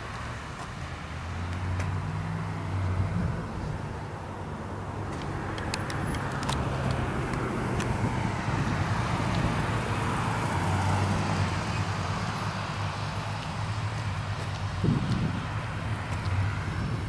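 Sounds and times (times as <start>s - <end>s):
low hum of road traffic: 0.0s - 17.0s
vehicle passing: 0.0s - 17.0s.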